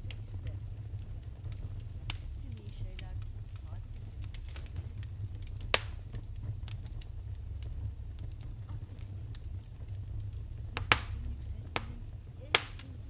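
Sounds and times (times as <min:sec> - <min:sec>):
low rumble: 0:00.0 - 0:13.0
sharp pops of fire: 0:00.0 - 0:13.0
wood fire crackling: 0:00.0 - 0:13.0.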